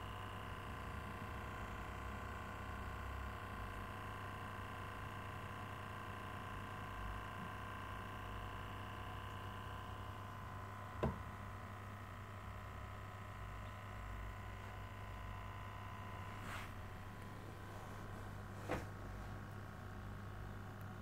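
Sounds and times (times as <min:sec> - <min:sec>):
aquarium equipment humming: 0:00.0 - 0:21.0.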